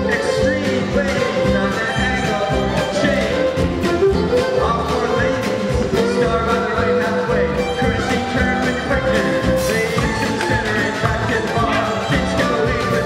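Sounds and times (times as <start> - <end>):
acoustic guitar: 0.0 - 13.0
drum kit beat: 0.0 - 13.0
fiddle melody: 0.0 - 13.0
mandolin: 0.0 - 13.0
upright bass: 0.0 - 13.0.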